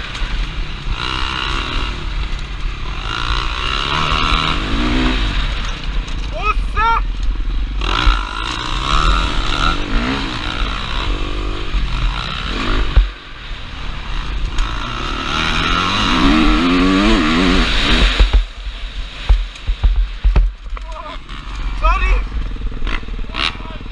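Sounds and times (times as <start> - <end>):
motocross engine revving: 0.0 - 23.9.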